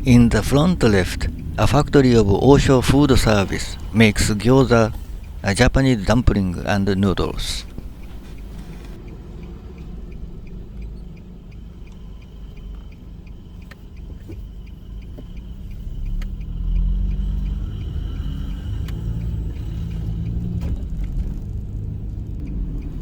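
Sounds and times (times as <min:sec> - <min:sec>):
car road and engine rumble: 0:00.0 - 0:23.0
faint regular ticking: 0:00.0 - 0:23.0.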